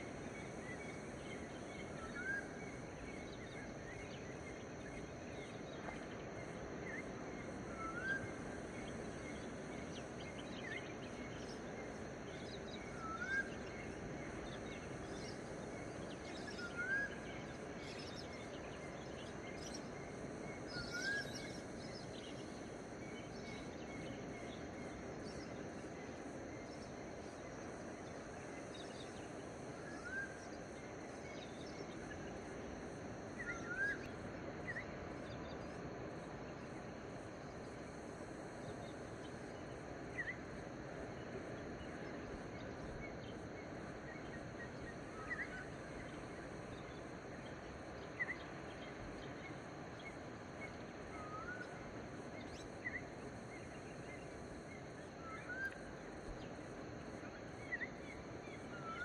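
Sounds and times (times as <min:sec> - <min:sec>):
outdoor ambience hiss: 0:00.0 - 0:59.0.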